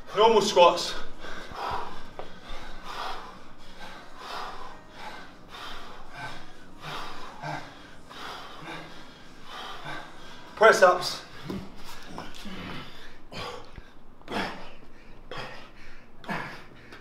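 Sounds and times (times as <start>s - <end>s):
men breathing heavily: 0.0s - 17.0s.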